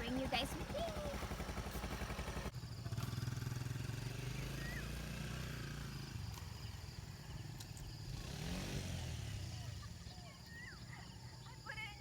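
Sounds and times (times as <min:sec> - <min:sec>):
small motorcycle engine running: 0:00.0 - 0:10.1.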